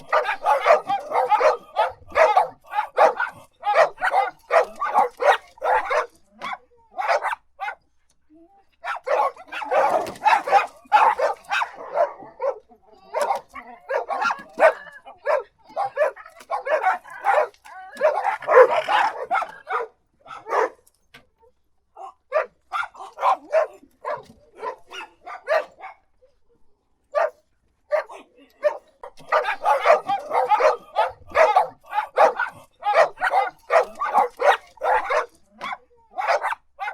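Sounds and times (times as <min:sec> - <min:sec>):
dog barking: 0:00.0 - 0:07.8, 0:08.8 - 0:20.9, 0:22.0 - 0:26.1, 0:27.1 - 0:36.9.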